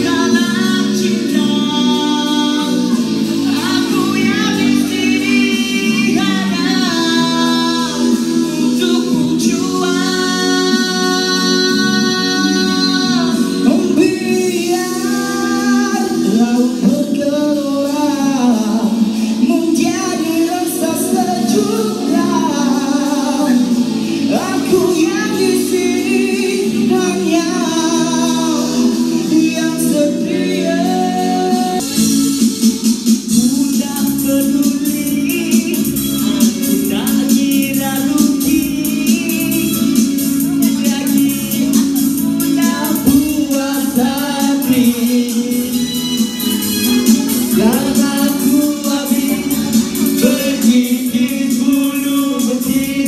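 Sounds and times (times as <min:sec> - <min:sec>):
karaoke backing track: 0:00.0 - 0:53.0
man singing into microphone: 0:00.0 - 0:53.0.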